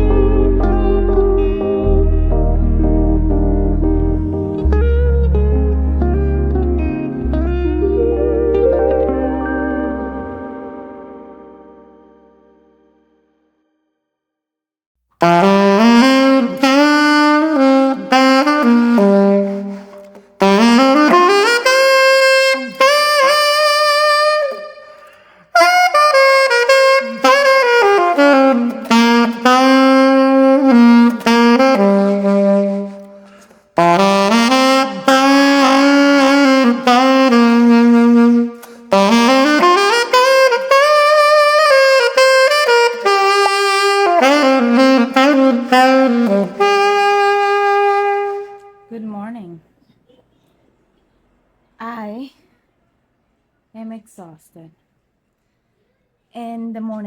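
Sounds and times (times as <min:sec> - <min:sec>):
slow jazzy saxophone melody: 0:00.0 - 0:13.2, 0:15.2 - 0:49.0.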